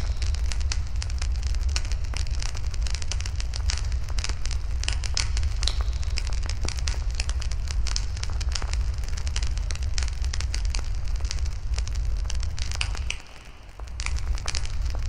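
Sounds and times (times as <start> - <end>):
bonfire crackling: 0.0 - 15.0
low fire rumble: 0.0 - 15.0.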